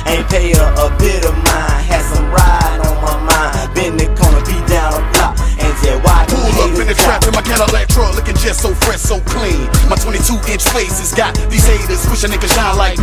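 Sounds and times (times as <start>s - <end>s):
rapping over a beat: 0.0s - 13.0s.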